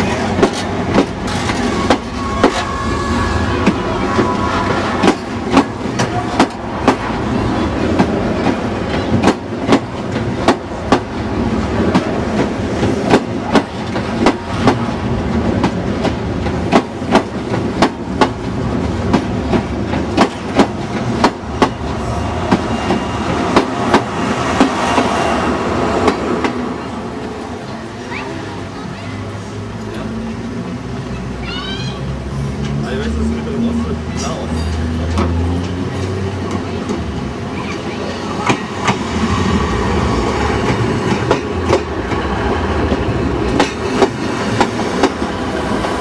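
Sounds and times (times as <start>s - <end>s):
train wheels clickety-clack: 0.0s - 2.8s, 3.6s - 28.2s, 34.2s - 46.0s
train rumble: 0.0s - 46.0s.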